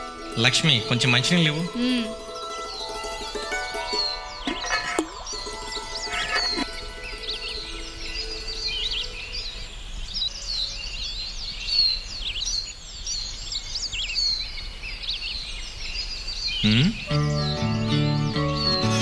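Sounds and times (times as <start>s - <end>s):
small birds chirping and singing: 0.0s - 19.0s.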